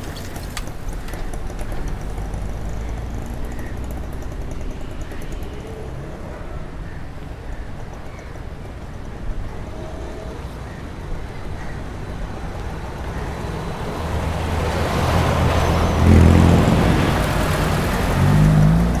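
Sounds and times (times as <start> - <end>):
rumble of passing vehicles: 0.0 - 19.0
vehicle engine hum: 0.0 - 19.0.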